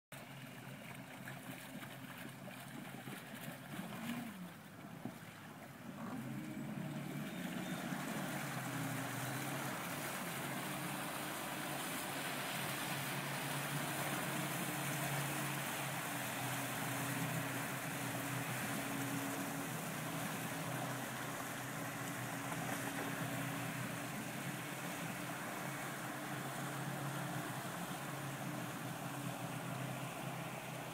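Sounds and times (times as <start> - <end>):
water rushing along hull: 0.1 - 30.9
motorboat engine: 0.2 - 30.9.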